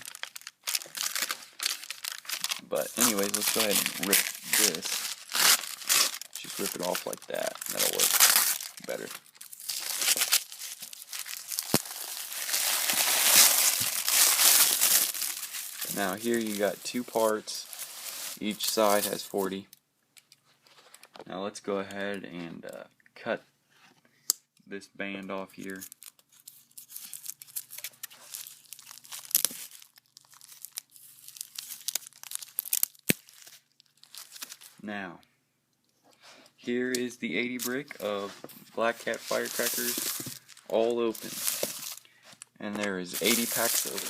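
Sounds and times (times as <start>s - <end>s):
wrapping crinkling and tearing: 0.0s - 19.6s, 25.6s - 34.8s, 37.5s - 44.0s.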